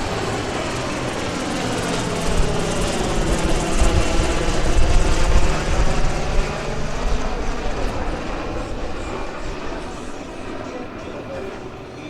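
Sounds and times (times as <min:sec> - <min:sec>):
military aircraft passing overhead: 0:00.0 - 0:12.0.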